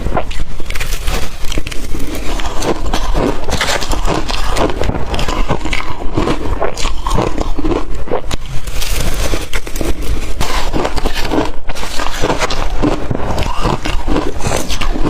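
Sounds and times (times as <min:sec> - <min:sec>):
chewing crushed ice: 0:00.0 - 0:15.0.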